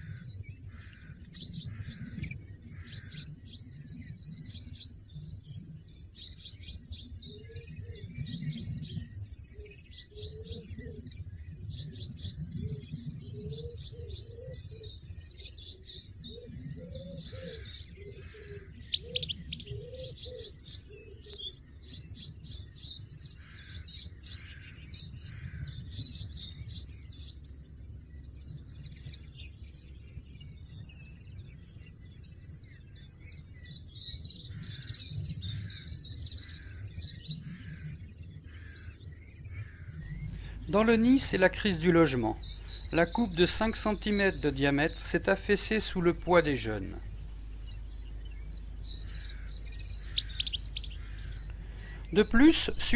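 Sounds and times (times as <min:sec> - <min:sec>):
small songbirds chirping: 0:00.0 - 0:52.9.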